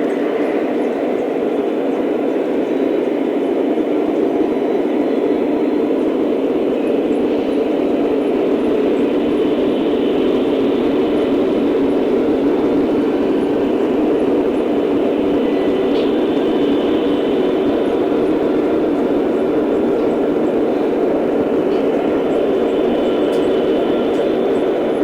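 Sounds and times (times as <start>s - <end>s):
model train rumbling on track: 0.0s - 25.0s.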